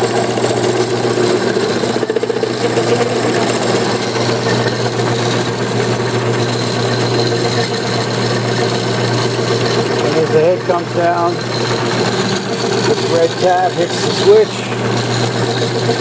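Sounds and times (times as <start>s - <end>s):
band saw motor humming: 0.0s - 16.0s.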